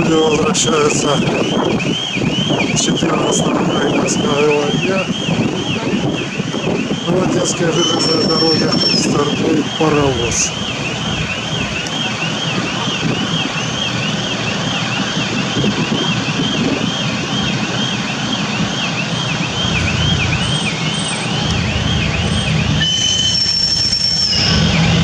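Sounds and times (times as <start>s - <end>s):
diesel locomotive engine running: 0.0s - 25.0s
level-crossing warning warble: 0.0s - 25.0s.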